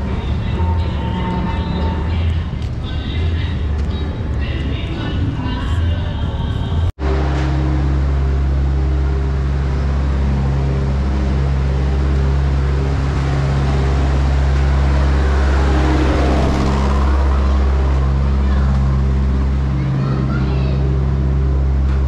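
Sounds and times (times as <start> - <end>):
diesel loader engine running: 0.0 - 22.0.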